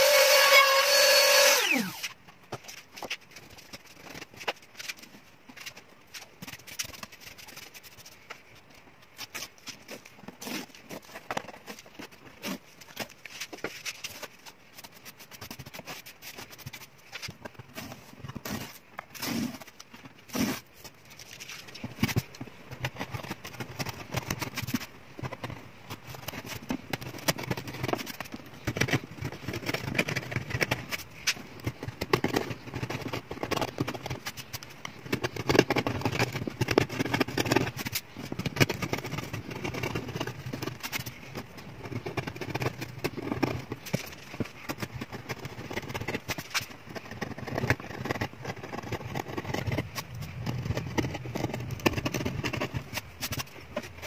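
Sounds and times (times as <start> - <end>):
knife scraping wood: 0.0 - 5.0, 9.2 - 54.0.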